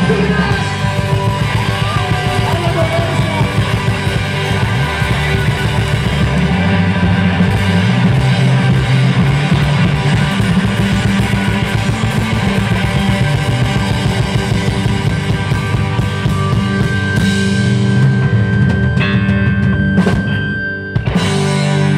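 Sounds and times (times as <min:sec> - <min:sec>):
rock band playing: 0:00.0 - 0:21.9.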